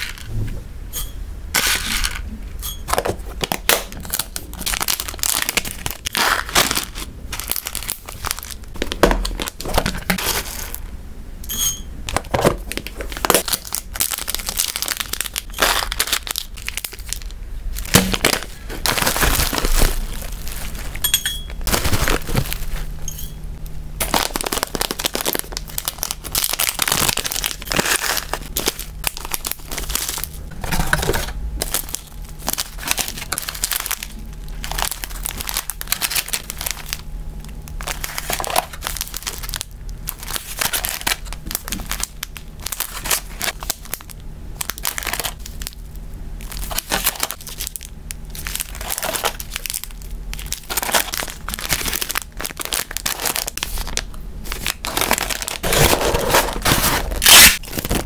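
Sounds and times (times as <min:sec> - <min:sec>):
plastic and foil packaging crinkling: 0:00.0 - 0:00.3, 0:01.6 - 0:10.9, 0:12.1 - 0:23.4, 0:24.0 - 0:58.0.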